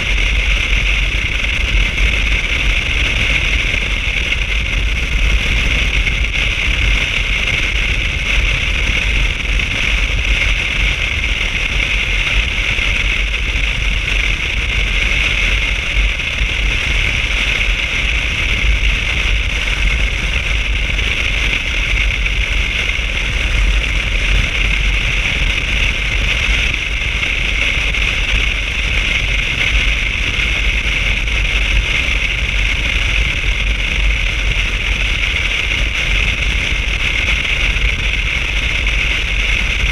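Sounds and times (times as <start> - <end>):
low motorcycle rumble: 0.0 - 39.9
wind rush over microphone: 0.0 - 39.9.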